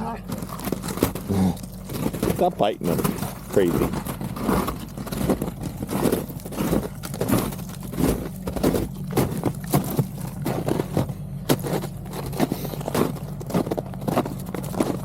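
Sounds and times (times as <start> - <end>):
tractor diesel engine running: 0.0 - 15.0
tyres crunching over ice and snow: 0.0 - 15.0.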